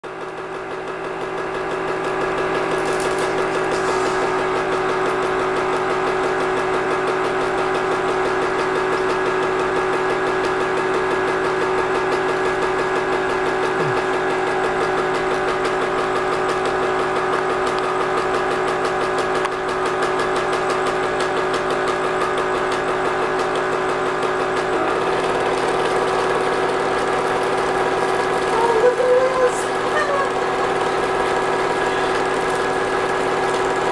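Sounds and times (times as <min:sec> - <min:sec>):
film projector running: 0:00.0 - 0:33.9.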